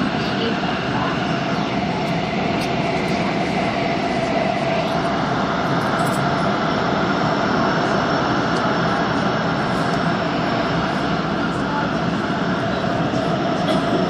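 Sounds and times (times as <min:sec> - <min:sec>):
steady mid-pitched tone: 0:00.0 - 0:14.0
train rumbling through tunnel: 0:00.0 - 0:14.0.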